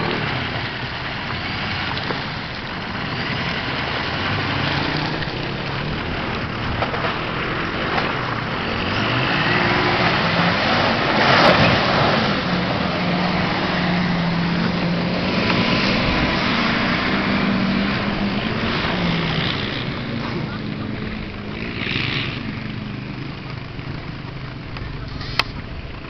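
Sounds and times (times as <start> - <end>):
truck engine under load: 0.0 - 26.0
wheels churning dirt: 0.0 - 26.0.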